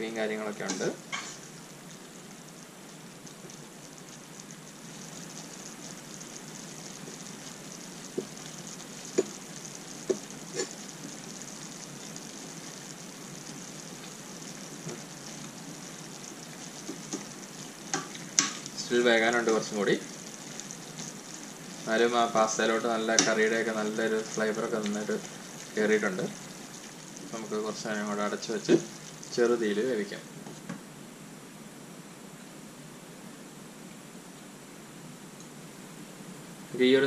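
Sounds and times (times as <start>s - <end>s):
pasta simmering in a pan: 0.0s - 30.7s.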